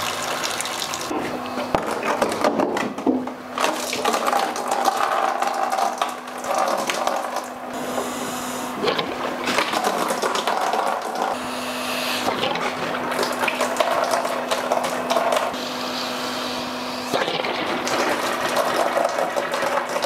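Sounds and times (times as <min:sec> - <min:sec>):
steady hum: 0:01.0 - 0:19.8.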